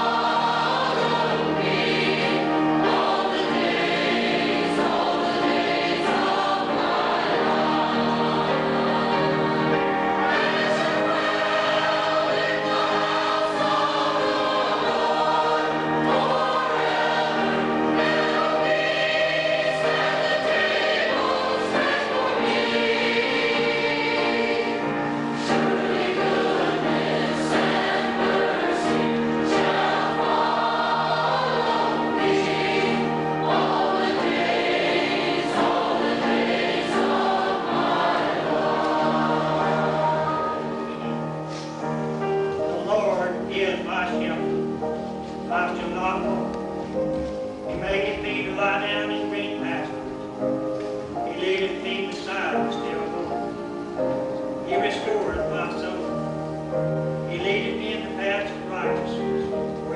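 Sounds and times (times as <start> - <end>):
choir singing a hymn: 0.0 - 59.9
organ playing held notes: 0.0 - 59.9.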